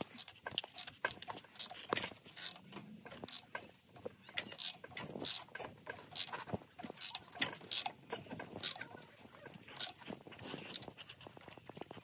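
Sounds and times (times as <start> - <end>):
engine clicks and squeaks: 0.0 - 12.0.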